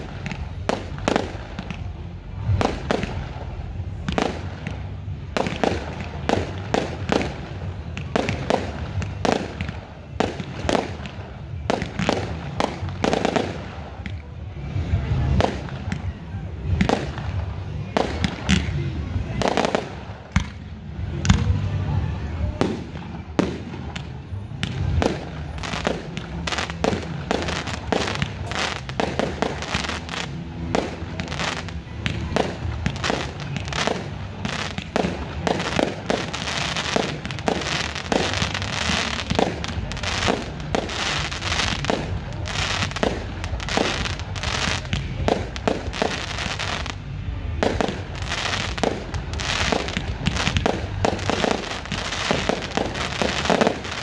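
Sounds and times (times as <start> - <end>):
fireworks bursts and crackles: 0.0 - 54.0.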